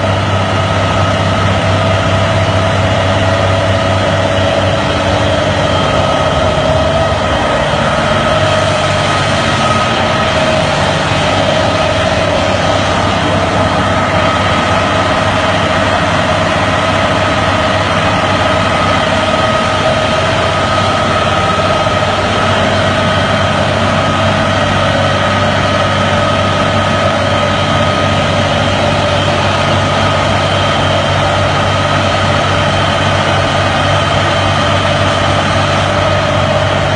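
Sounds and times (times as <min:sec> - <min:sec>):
generator engine drone: 0:00.0 - 0:36.9
steady whine: 0:00.0 - 0:36.9.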